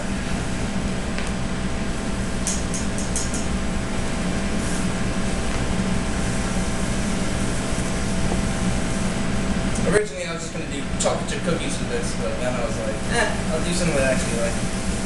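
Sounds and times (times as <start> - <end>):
exhaust hood fan humming: 0.0 - 15.0.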